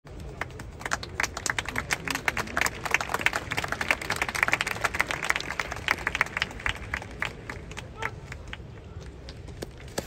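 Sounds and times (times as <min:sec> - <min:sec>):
crowd clapping: 0:00.1 - 0:10.0.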